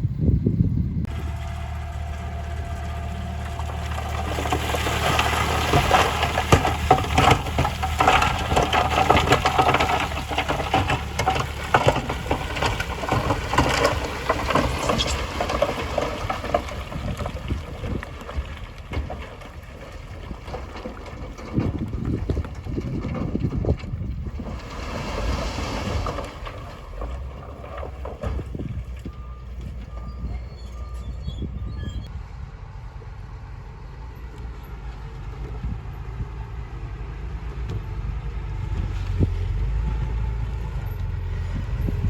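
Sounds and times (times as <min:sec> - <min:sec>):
diesel engine running: 0:00.0 - 0:42.0
gravel crunching and clattering: 0:01.0 - 0:32.4, 0:33.1 - 0:42.0.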